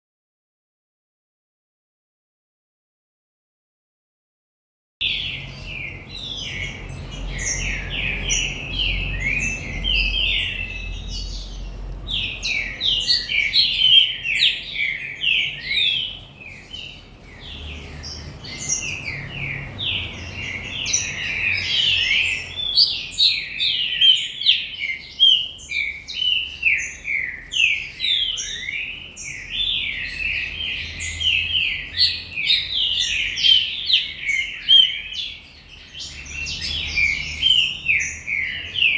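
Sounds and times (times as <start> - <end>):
bird singing chirping notes: 5.0 - 38.9.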